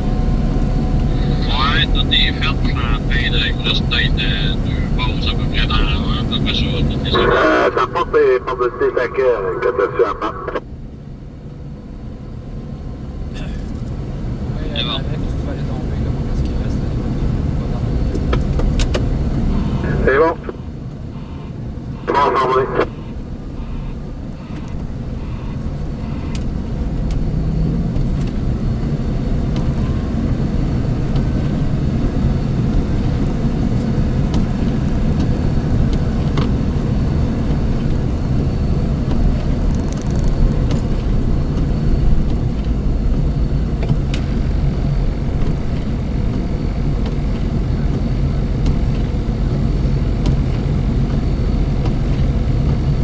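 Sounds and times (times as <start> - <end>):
heavy machinery engine rumbling: 0.0 - 10.6, 13.4 - 53.0.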